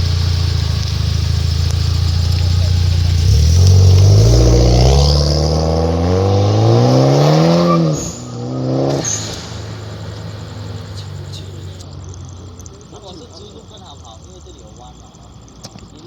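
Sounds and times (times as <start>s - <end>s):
car engine revving: 0.0s - 15.6s.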